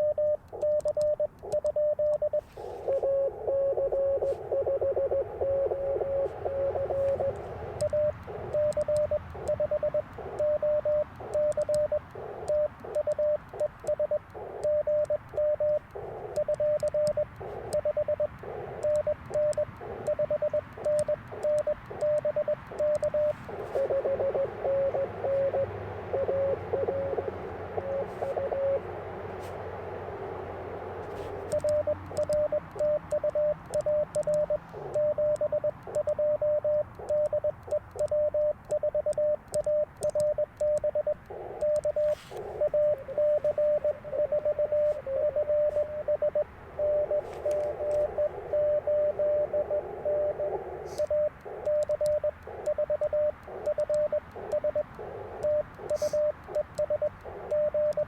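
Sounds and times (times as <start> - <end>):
morse code tone: 0.0 - 58.0
radio band noise hiss: 2.4 - 37.2, 40.5 - 58.0.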